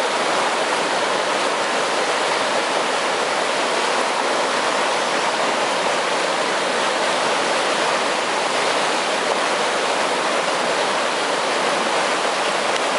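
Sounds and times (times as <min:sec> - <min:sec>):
water rushing along canal: 0:00.0 - 0:12.9.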